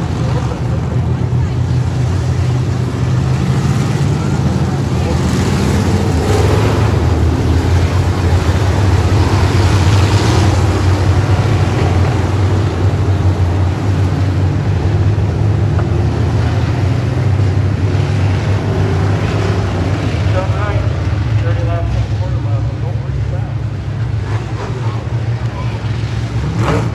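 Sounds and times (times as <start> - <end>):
race car engines droning: 0.0 - 26.9.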